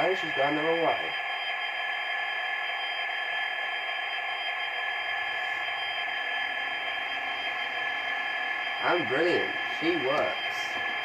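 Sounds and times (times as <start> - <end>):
model locomotive electric whine: 0.0 - 11.0.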